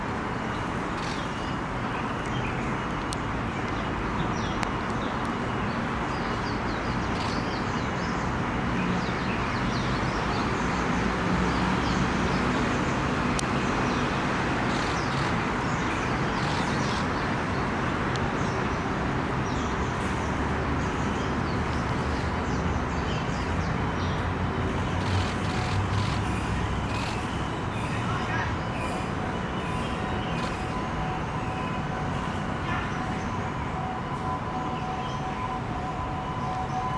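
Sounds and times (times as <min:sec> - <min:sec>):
city traffic: 0:00.0 - 0:36.9.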